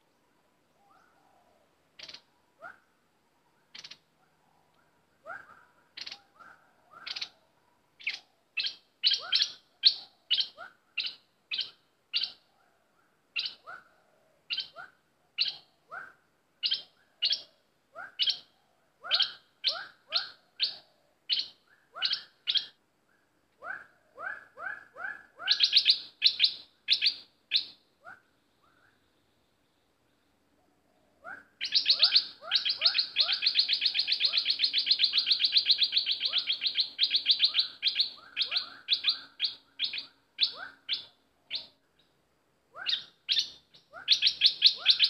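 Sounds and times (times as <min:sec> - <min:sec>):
bird calling in chirpy phrases: 0:00.7 - 0:29.1, 0:30.7 - 0:45.0.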